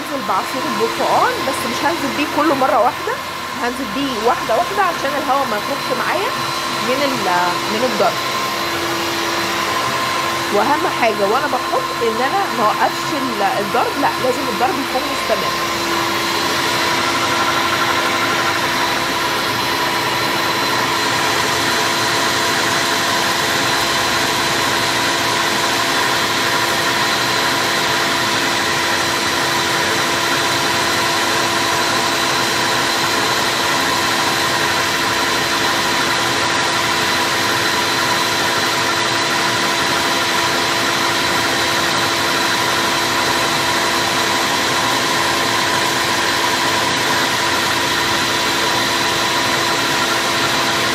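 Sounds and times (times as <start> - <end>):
stand mixer whisking batter: 0.0 - 50.9.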